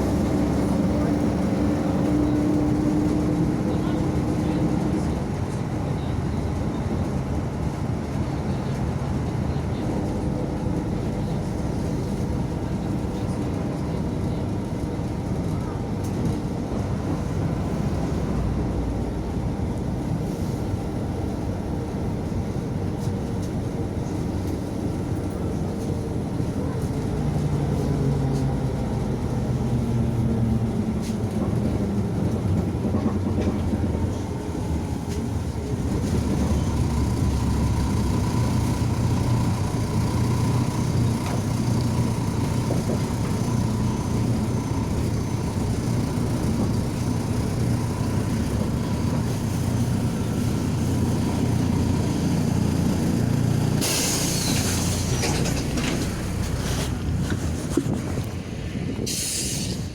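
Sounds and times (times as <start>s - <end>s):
bus diesel engine hum: 0.0s - 59.9s
road noise: 0.0s - 59.9s.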